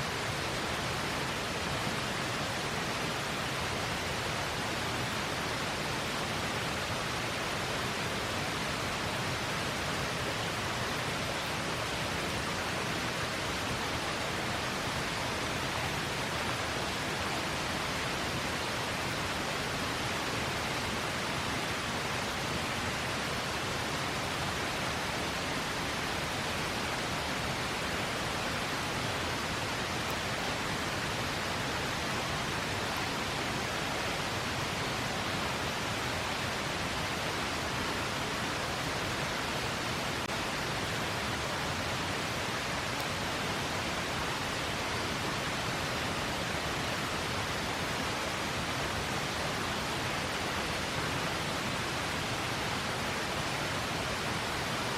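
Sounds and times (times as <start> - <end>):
river rushing: 0.0 - 54.9.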